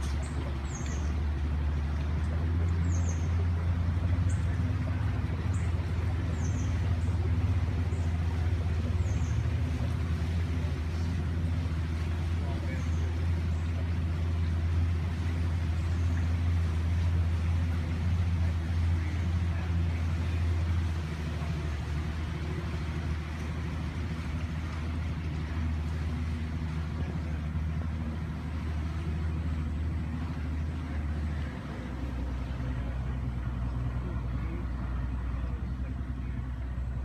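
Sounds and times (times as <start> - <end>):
outboard motor running: 0.0 - 37.0.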